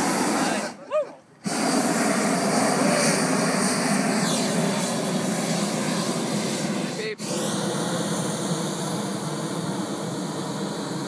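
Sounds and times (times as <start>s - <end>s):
propane burner blast: 0.0s - 0.8s, 1.4s - 11.0s.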